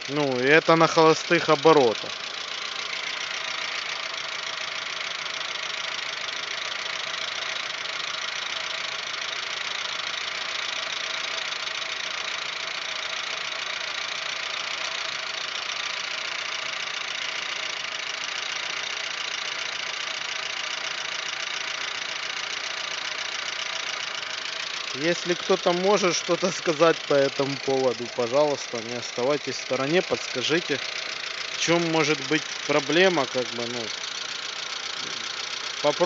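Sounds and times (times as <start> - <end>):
car engine idling: 0.0 - 36.0
engine ticking clatter: 0.0 - 36.0.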